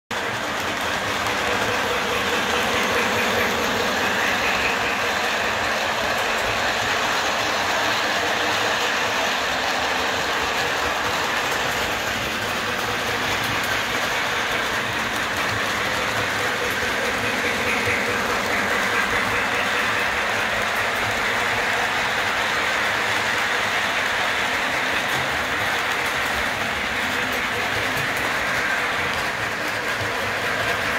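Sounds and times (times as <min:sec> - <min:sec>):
model train rolling rumble: 0:00.1 - 0:30.9.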